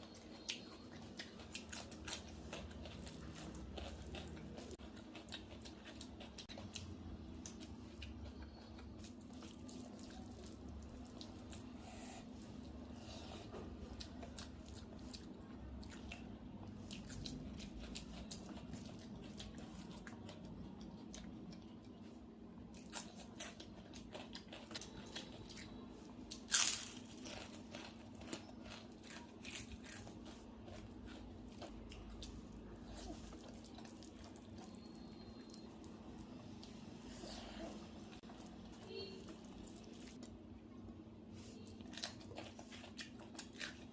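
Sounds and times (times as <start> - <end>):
chewing and crunching: 0.0 - 40.8, 41.4 - 43.9
steady low hum: 0.0 - 43.9.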